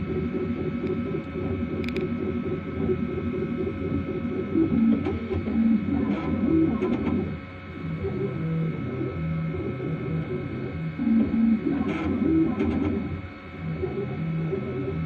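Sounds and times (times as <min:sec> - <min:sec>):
steady higher hum: 0:00.0 - 0:15.0.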